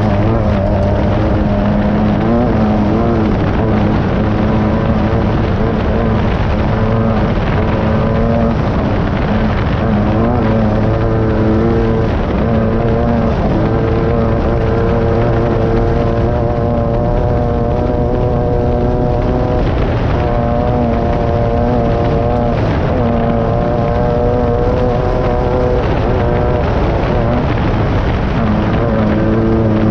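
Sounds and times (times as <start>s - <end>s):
chassis rattle: 0.0s - 29.9s
engine revving hard: 0.0s - 29.9s
wind noise: 0.0s - 29.9s.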